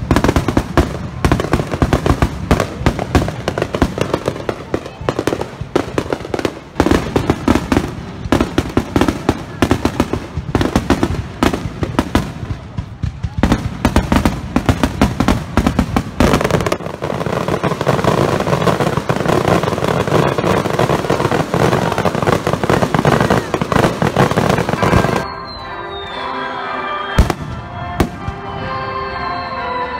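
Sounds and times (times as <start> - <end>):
fireworks bangs and crackles: 0.0 - 26.2, 27.1 - 28.8.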